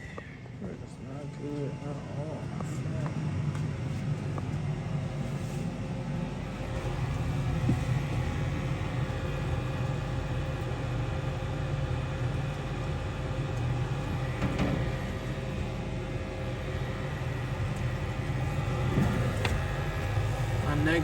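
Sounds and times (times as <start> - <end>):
furnace fan motor humming: 0.0 - 21.0.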